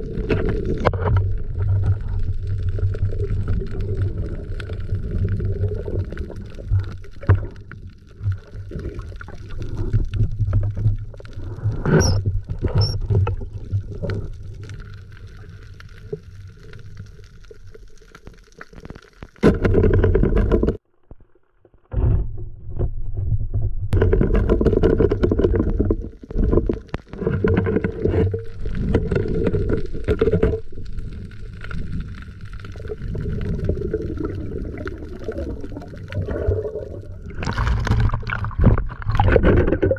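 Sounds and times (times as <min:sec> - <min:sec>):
underwater rumbling and sloshing: 0:00.0 - 0:39.9.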